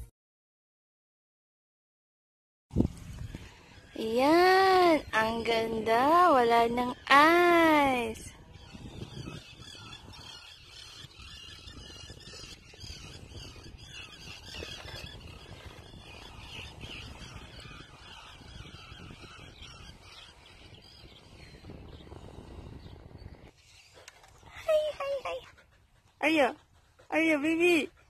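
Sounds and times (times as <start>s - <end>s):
wind rumble on microphone: 2.7s - 28.0s
small birds chirping: 2.8s - 28.0s.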